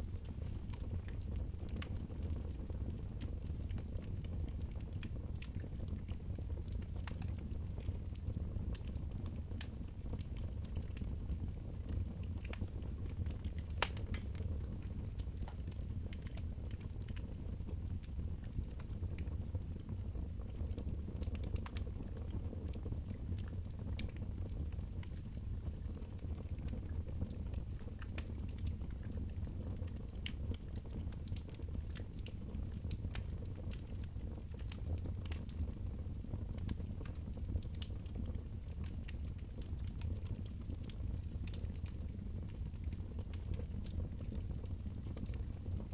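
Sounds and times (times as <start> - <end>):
fireplace fire crackling: 0.0 - 45.9.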